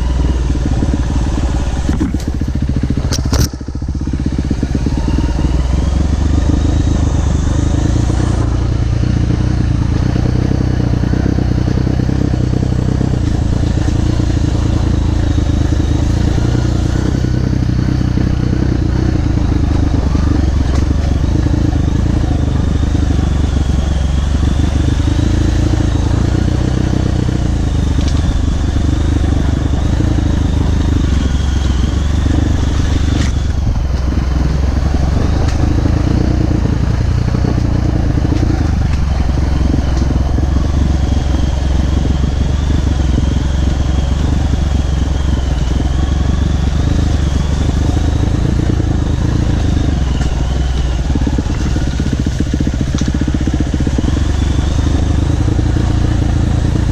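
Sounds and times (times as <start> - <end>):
high whine: 0.0 - 56.9
motorcycle engine running: 0.0 - 56.9.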